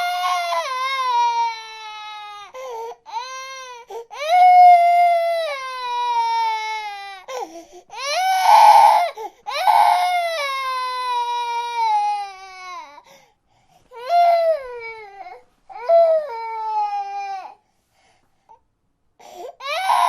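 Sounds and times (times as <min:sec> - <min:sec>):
infant crying: 0:00.0 - 0:13.0, 0:13.9 - 0:17.6, 0:19.2 - 0:20.0.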